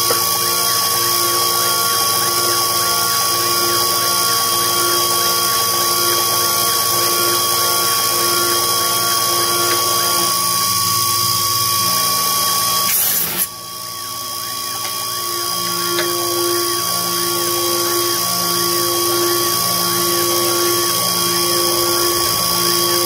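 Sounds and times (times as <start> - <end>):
milling machine spindle whine: 0.0 - 23.0.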